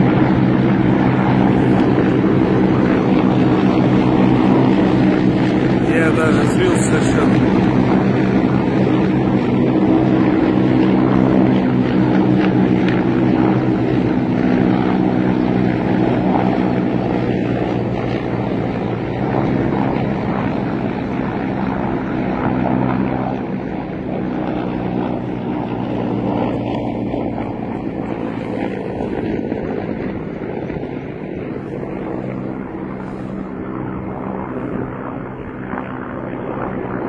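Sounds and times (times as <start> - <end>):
helicopters flying past: 0.0 - 37.0.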